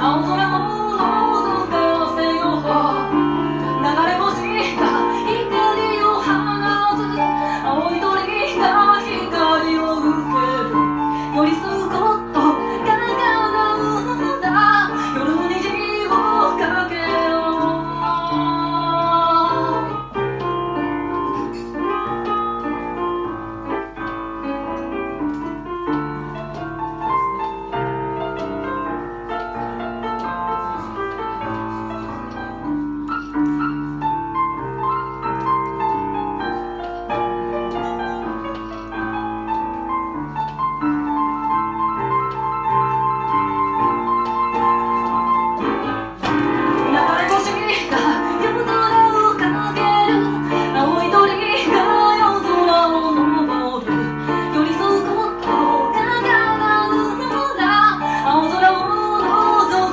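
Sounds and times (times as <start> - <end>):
piano playing flowing notes: 0.0 - 59.9.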